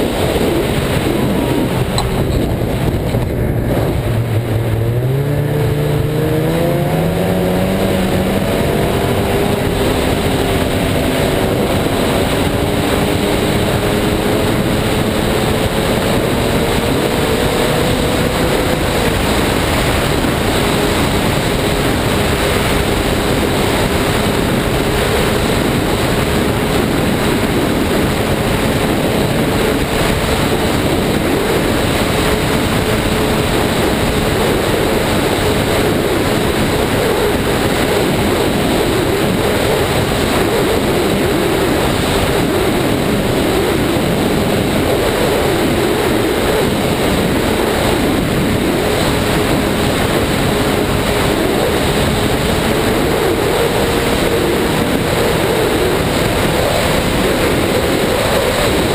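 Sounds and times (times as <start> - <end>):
rushing noise: 0.0 - 58.9
snowmobile engine running: 0.0 - 58.9.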